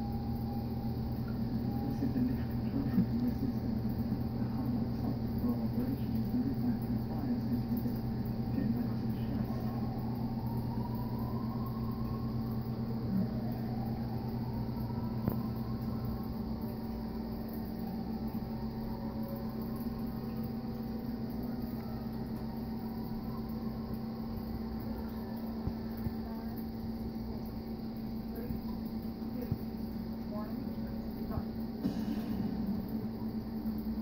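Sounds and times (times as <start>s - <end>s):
faint rising whine: 0.0s - 34.0s
low mechanical hum: 0.0s - 34.0s.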